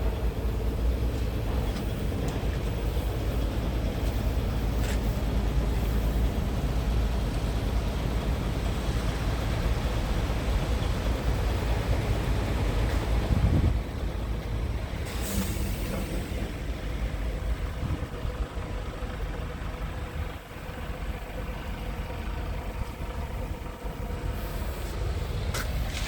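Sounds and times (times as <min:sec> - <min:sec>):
truck diesel engine rumbling: 0:00.0 - 0:26.0.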